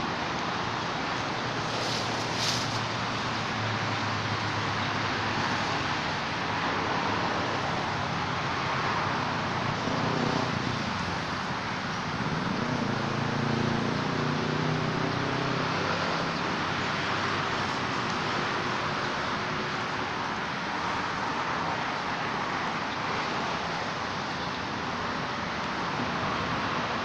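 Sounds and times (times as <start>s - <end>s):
road traffic noise: 0.0s - 27.0s
vehicle engine hum: 0.0s - 27.0s.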